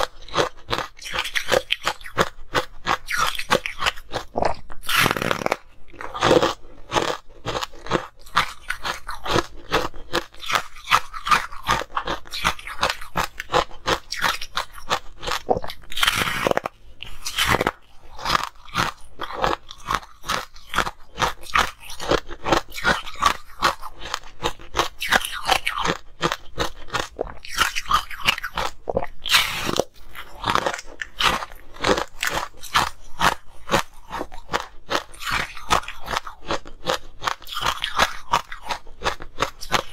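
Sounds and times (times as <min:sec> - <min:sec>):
crunching frozen ice bar: 0:00.0 - 0:39.9.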